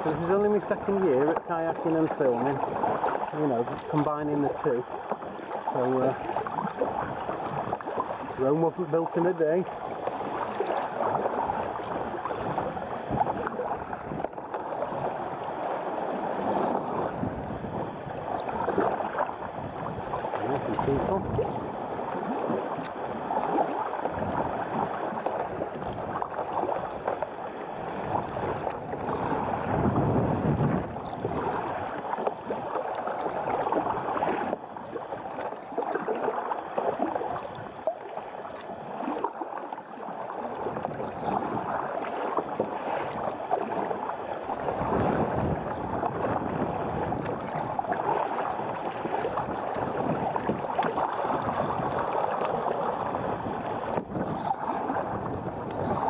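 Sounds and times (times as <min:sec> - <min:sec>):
wind noise on microphone: 0:00.0 - 0:36.1, 0:40.5 - 0:56.0
sea water splashing and lapping: 0:00.0 - 0:56.0.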